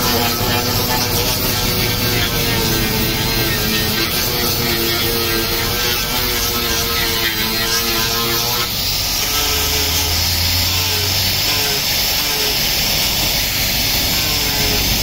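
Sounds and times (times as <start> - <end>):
angle grinder sanding wood: 0.0 - 15.0.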